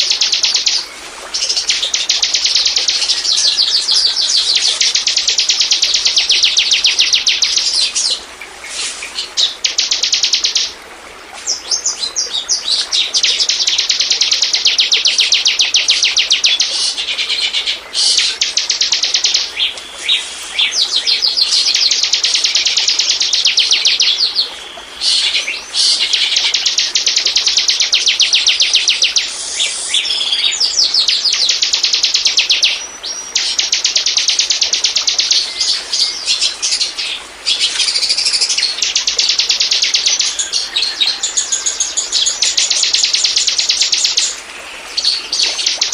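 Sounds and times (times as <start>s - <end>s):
bird song of rapid high notes: 0.0s - 10.7s, 11.4s - 45.9s.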